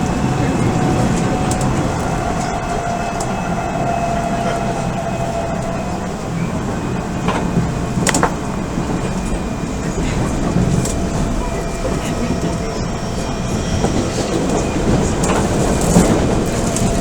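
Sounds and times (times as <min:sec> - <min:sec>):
rail-joint clicks: 0:00.0 - 0:17.0
train interior rumble: 0:00.0 - 0:17.0.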